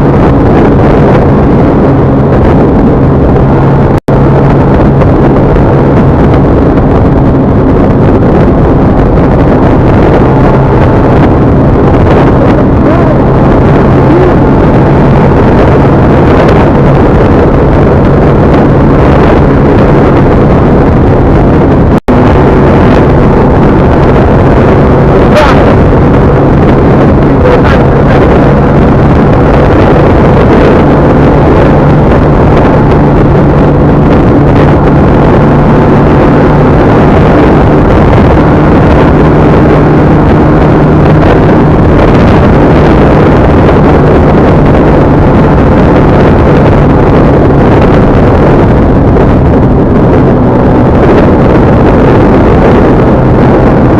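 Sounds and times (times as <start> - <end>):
vehicle engine hum: 0.0 - 53.9
wind buffeting microphone: 0.0 - 53.9.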